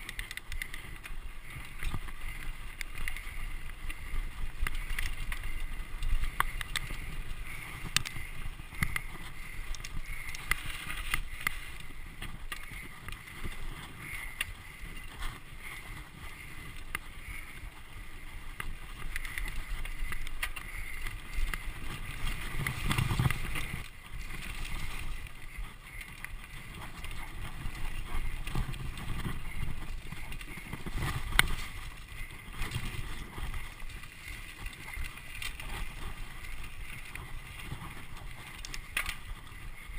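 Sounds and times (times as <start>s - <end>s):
bike rattling over rough ground: 0.0s - 39.9s.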